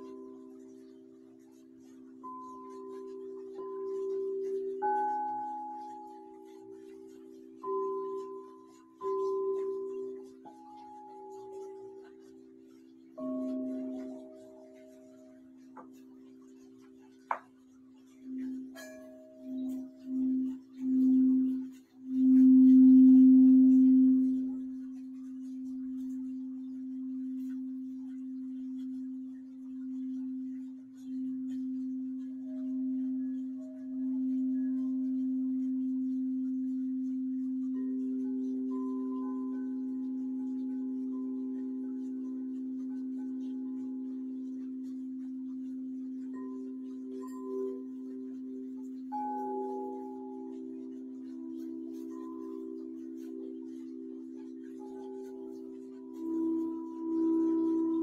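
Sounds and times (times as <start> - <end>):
crystal singing bowls ringing: 0.0 - 58.0.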